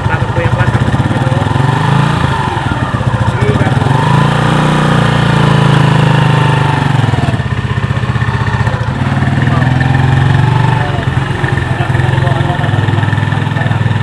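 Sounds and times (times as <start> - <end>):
motorcycle engine passing: 0.0 - 14.0.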